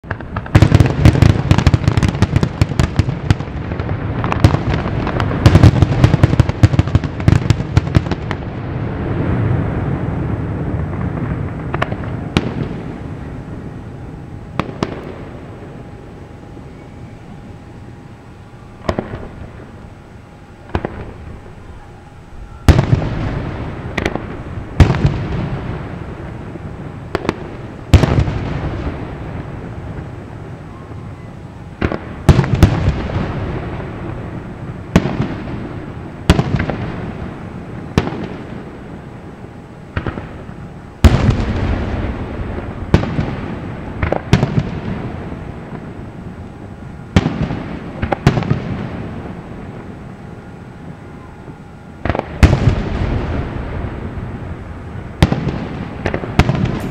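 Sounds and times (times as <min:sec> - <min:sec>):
fireworks bursting with echo: 0:00.0 - 0:56.9.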